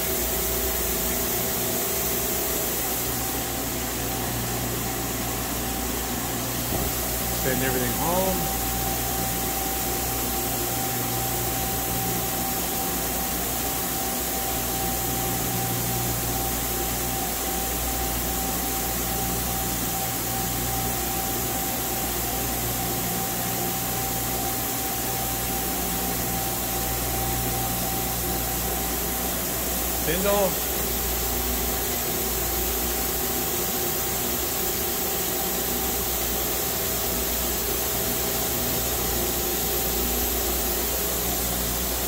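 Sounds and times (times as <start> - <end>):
machine humming with whine: 0.0 - 42.0.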